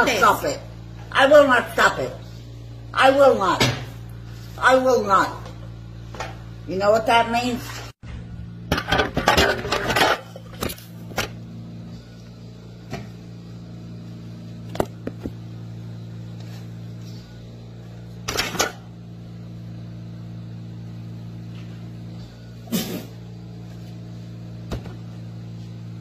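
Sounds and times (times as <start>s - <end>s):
kitchen appliance humming: 0.0s - 26.0s.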